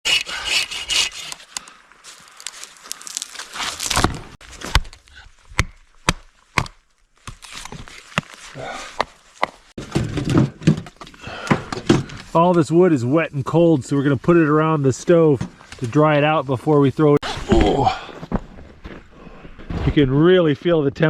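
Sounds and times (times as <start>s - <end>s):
firewood rustling and scuffing: 1.5s - 12.7s, 13.4s - 20.2s.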